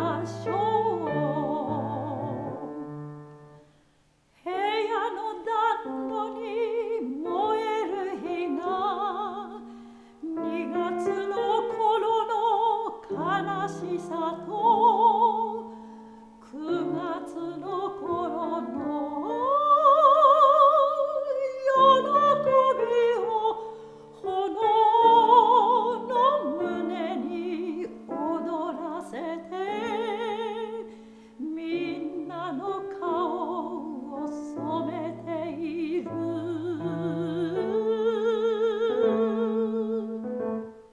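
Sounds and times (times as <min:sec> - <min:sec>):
piano accompaniment: 0:00.0 - 0:03.7, 0:04.5 - 0:40.9
soprano singing: 0:00.0 - 0:40.9.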